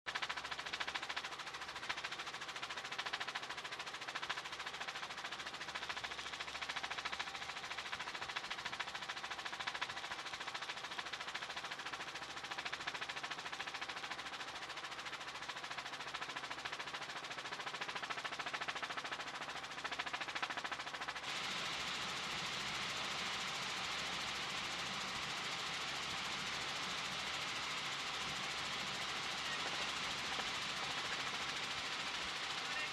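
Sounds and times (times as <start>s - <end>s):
helicopter rotor chopping: 0.1s - 32.9s.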